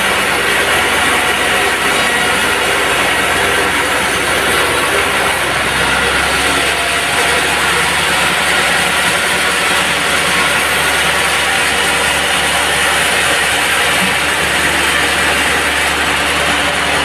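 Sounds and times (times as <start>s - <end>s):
mill motor hum: 0.0s - 17.0s
saw blade cutting log: 0.0s - 17.0s.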